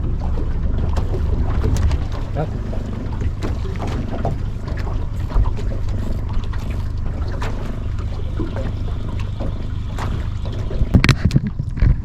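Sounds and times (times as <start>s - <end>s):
outboard motor droning: 0.0s - 12.0s
water splashing against hull: 0.0s - 12.0s.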